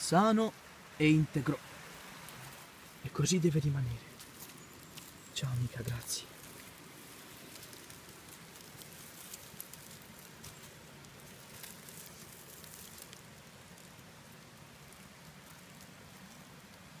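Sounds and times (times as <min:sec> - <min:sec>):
dry leaves crackling: 0:00.0 - 0:17.0.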